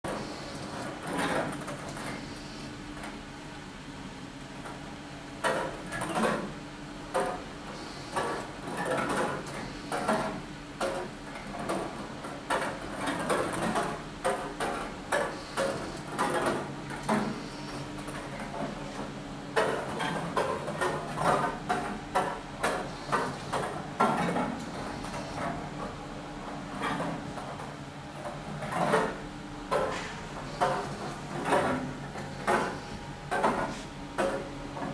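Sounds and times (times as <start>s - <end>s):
low mechanism hum: 0.1s - 34.9s.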